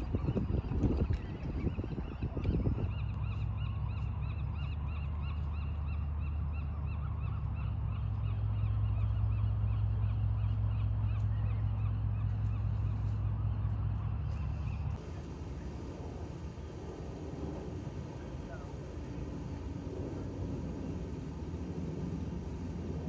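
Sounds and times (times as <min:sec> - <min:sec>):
low motor hum: 0:00.0 - 0:23.0.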